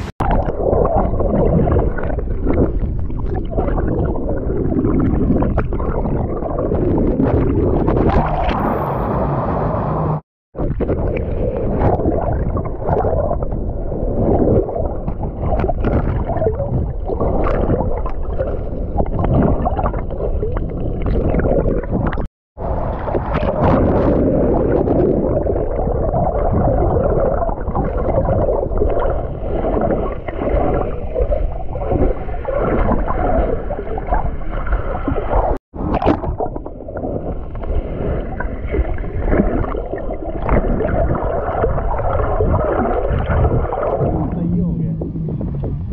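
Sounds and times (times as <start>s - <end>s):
underwater rush of surf: 0.0s - 45.9s.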